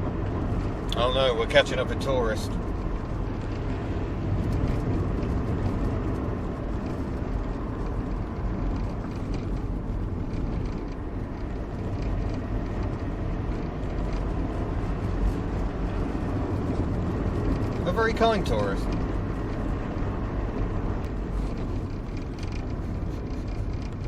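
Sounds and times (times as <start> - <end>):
diesel engine running: 0.0 - 24.0
road and tyre noise: 0.0 - 24.0.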